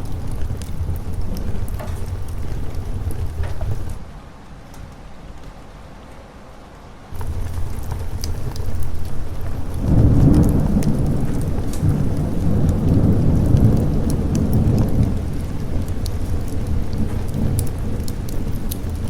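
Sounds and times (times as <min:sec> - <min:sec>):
rolling thunder: 0:00.0 - 0:04.0, 0:07.2 - 0:19.0
steady rain: 0:00.0 - 0:19.0.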